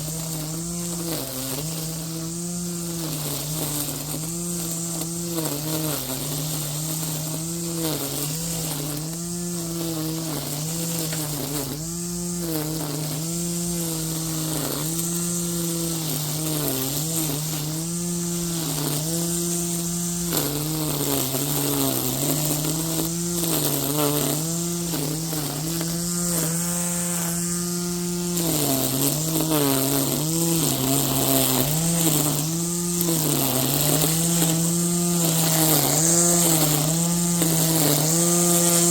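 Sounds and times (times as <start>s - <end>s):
string trimmer motor humming: 0.0s - 38.9s.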